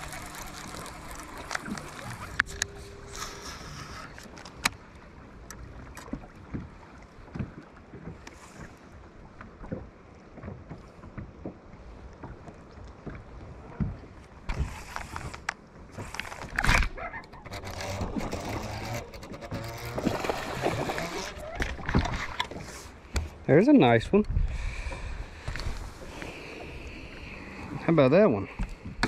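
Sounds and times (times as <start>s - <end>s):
water and hull noise: 0.0s - 29.0s.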